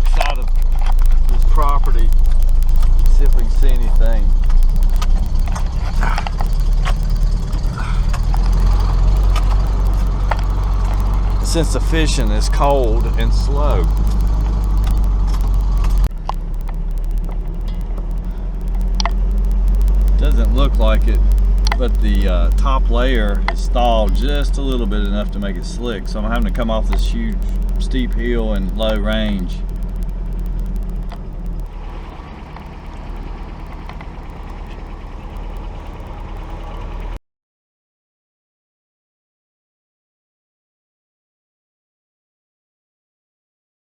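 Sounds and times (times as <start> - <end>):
fine rapid ticking: 0.0 - 37.2
vehicle engine droning: 0.0 - 37.2.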